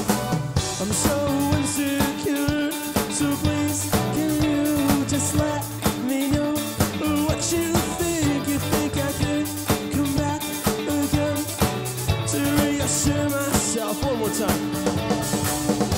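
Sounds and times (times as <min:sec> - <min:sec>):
drum kit: 0:00.0 - 0:15.9
electric bass: 0:00.0 - 0:15.9
electric guitars: 0:00.0 - 0:15.9.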